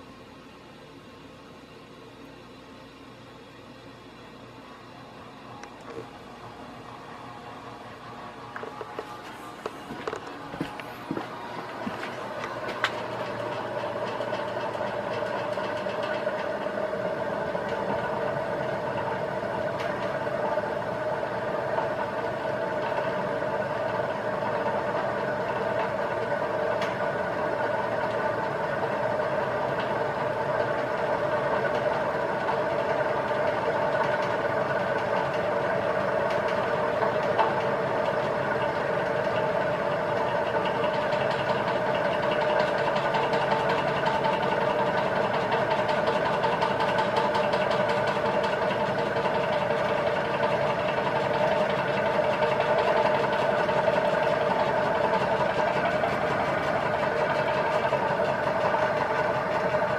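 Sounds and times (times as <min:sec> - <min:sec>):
ceiling fan motor humming: 0:00.0 - 0:59.9.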